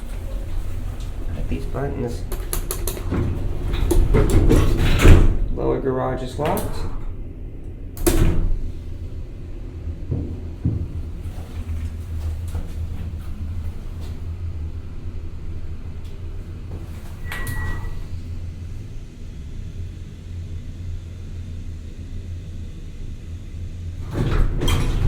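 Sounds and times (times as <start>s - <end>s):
elevator machinery rumble: 0.0s - 25.0s.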